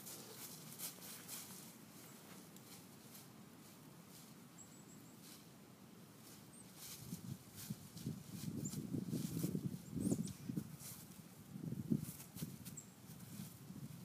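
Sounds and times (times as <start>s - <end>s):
dry leaves rustling: 0.0s - 4.6s, 6.2s - 9.8s, 10.7s - 13.8s.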